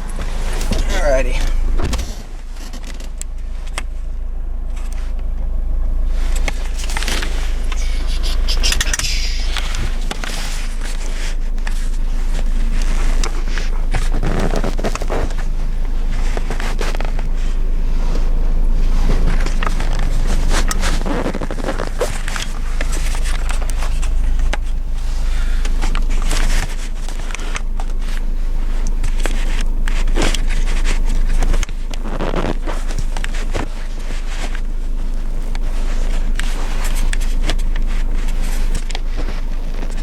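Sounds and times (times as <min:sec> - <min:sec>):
scraping rustling and bumping: 0:00.0 - 0:05.3, 0:06.1 - 0:40.0
car engine idling: 0:00.0 - 0:40.0.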